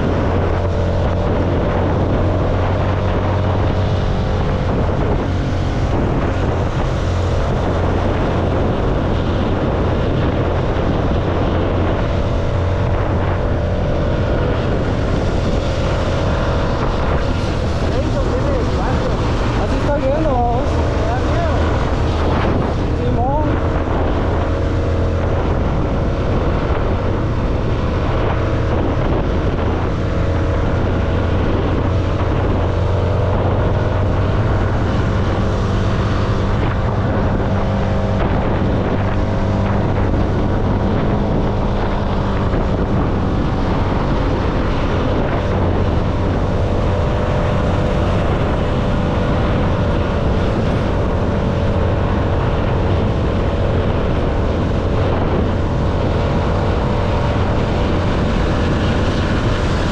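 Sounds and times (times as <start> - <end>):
motorcycle engine cruising: 0.0 - 59.9
wind on microphone: 0.0 - 59.9.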